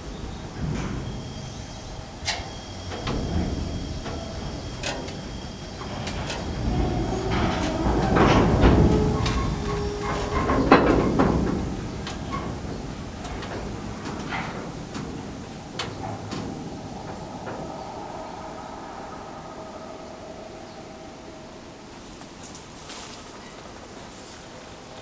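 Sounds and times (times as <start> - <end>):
freight wagons rolling on track: 0.0 - 25.0
wheel squeals: 0.1 - 23.6.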